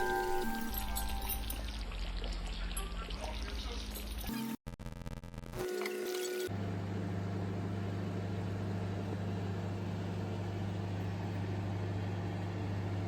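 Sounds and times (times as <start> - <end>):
mechanical hum: 0.0 - 2.1, 2.7 - 13.0.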